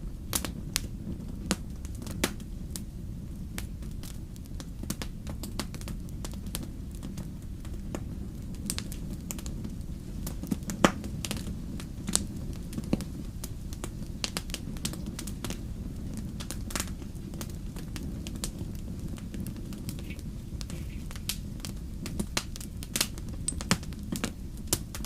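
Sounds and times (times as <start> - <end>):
steady low rumble: 0.0 - 25.0
wood fire crackling: 0.0 - 25.0
sharp pops of fire: 0.3 - 25.0.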